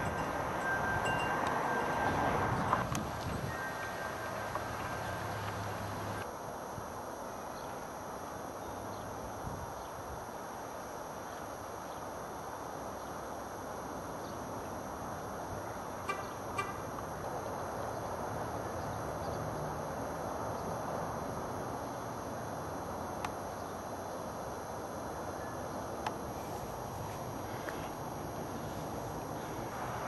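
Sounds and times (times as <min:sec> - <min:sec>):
outdoor background rush: 0:00.0 - 0:30.0.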